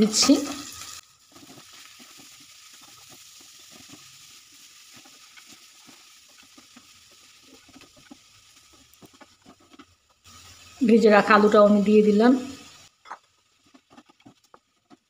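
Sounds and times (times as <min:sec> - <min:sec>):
steady hiss: 0:00.0 - 0:15.0
wooden spatula scraping pan: 0:00.1 - 0:10.7, 0:13.0 - 0:15.0.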